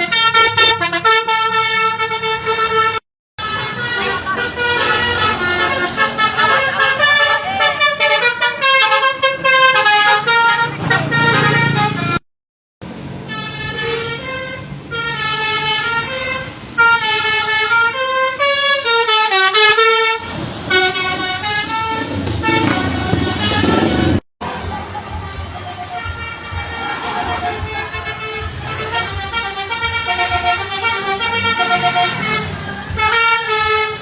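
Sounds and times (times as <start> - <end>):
multi-tone bus horn tune: 0.0 - 12.2, 12.9 - 34.0.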